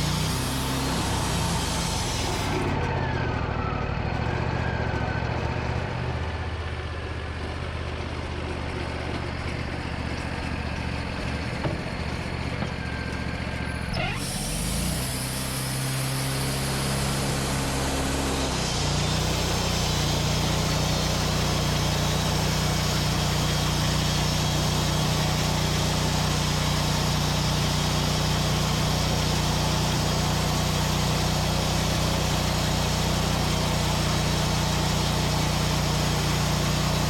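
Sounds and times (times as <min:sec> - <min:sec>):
engine running: 0:00.0 - 0:37.0.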